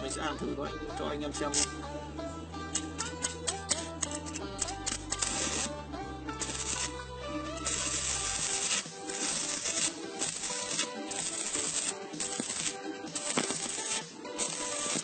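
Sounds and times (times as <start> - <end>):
background music: 0.0 - 15.0
welding arc crackling hiss: 2.7 - 15.0.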